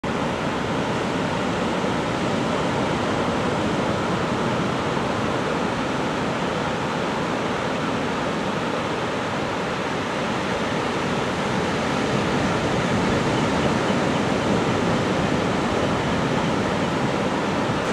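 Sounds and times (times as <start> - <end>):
ocean surf breaking on beach: 0.0 - 17.9.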